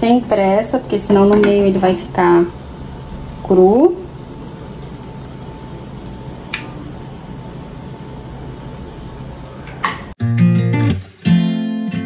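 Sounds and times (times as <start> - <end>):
batter sizzling in oil: 0.0 - 11.9.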